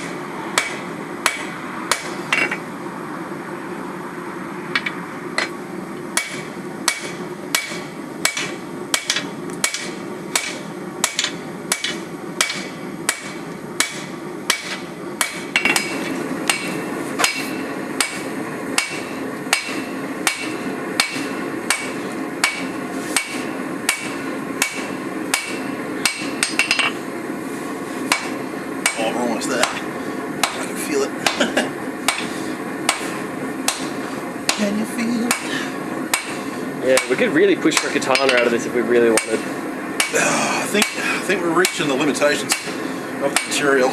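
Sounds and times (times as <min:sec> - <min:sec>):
hammer blows on hot steel: 0:06.2 - 0:27.1, 0:27.8 - 0:43.9.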